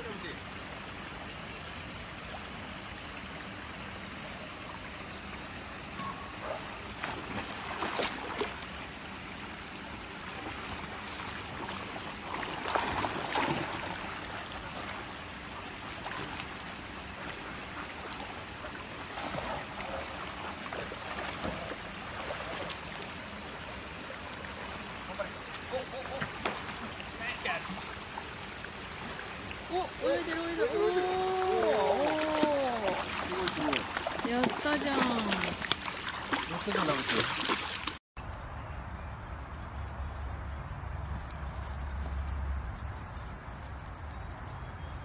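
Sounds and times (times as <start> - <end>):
swimming pool water trickling: 0.0 - 38.0
water splashing: 0.0 - 38.0.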